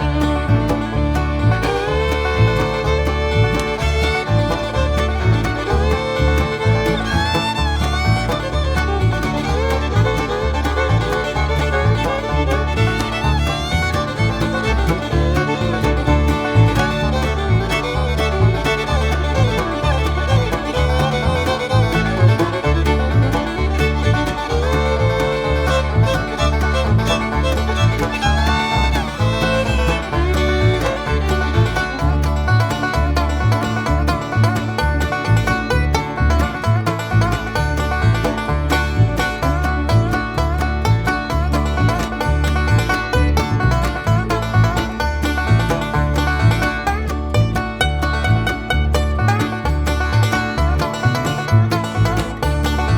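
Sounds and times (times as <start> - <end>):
bluegrass music: 0.0 - 52.9.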